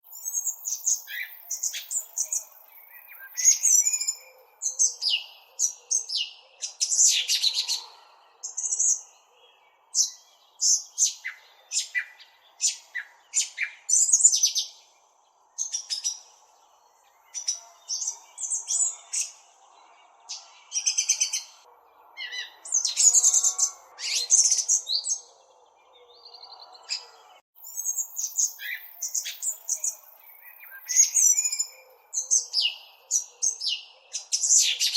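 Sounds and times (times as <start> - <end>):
small songbird chirping: 0.0 - 34.9.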